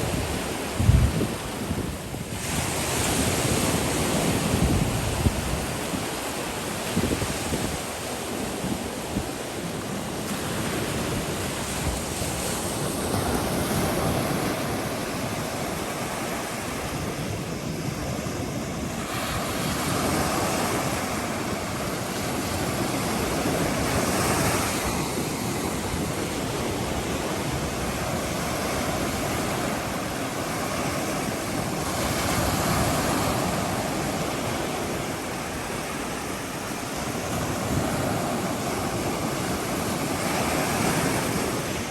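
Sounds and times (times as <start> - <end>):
ocean surf on shore: 0.0 - 41.9.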